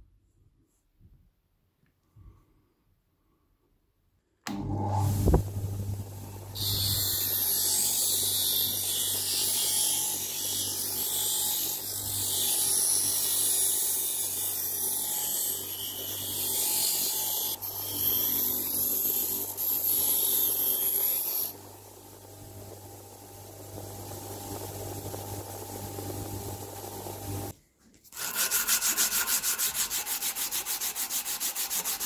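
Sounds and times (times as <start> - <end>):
bench grinder motor hum: 4.5 - 27.5, 28.2 - 32.0.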